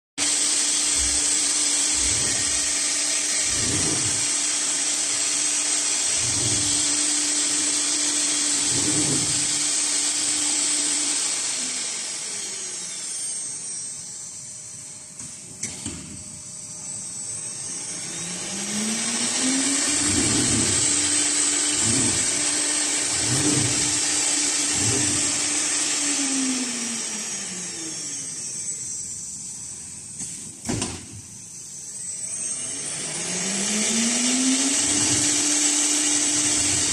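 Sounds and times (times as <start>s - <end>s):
woodworking machine motor whine: 0.2s - 36.9s.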